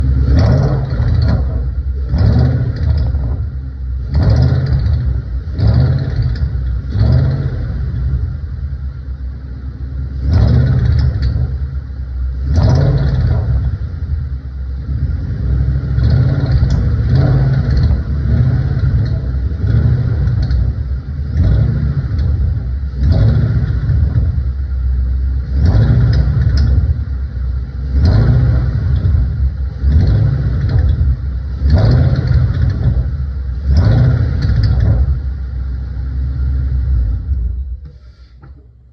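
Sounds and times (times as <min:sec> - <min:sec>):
car engine revving: 0:00.0 - 0:38.1.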